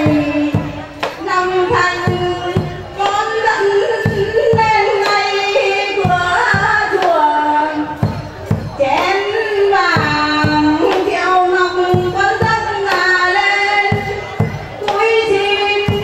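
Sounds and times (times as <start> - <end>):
woman singing: 0.0 - 8.1, 8.7 - 16.0
instrumental accompaniment: 0.0 - 16.0
sharp percussion strikes: 0.0 - 16.0.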